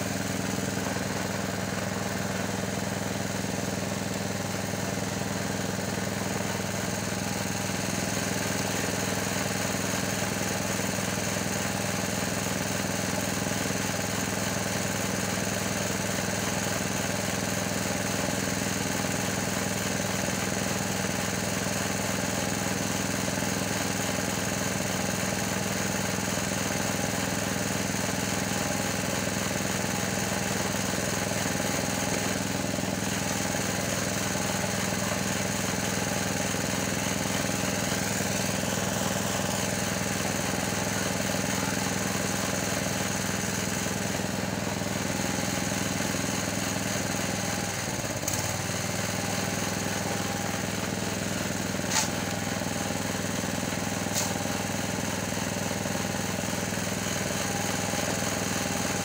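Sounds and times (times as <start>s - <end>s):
small engine running steadily: 0.0s - 59.0s.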